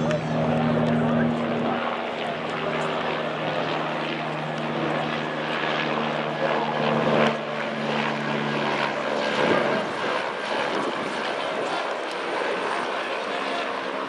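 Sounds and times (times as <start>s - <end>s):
engine drone: 0.0s - 12.2s.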